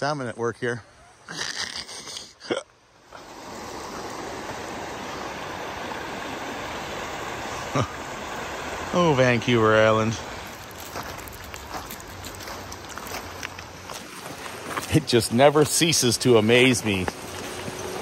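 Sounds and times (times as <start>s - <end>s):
creek running over stones: 3.0s - 18.0s.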